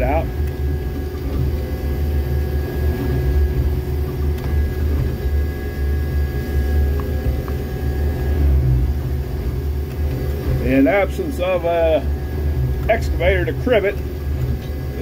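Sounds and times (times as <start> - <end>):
heavy low engine drone: 0.0 - 15.0.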